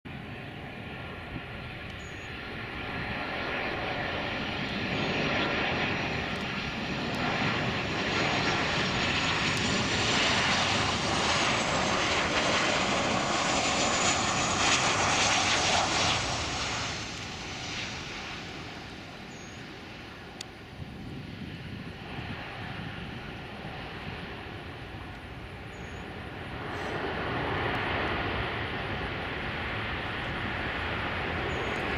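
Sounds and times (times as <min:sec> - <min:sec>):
jet engines roaring with whine: 0:00.1 - 0:31.9.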